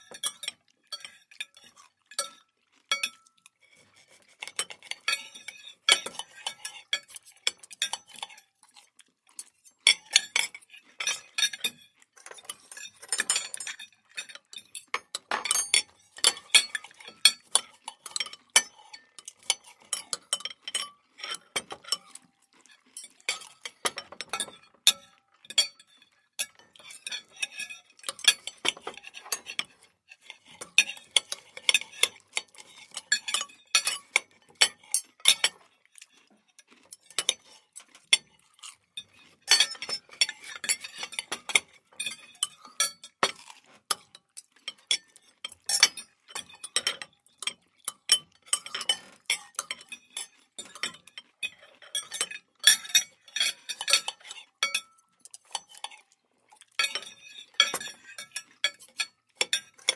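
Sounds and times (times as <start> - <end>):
cutlery clinking on plates: 0.0 - 3.4, 4.1 - 8.5, 9.8 - 35.6, 36.8 - 56.1, 56.8 - 59.9.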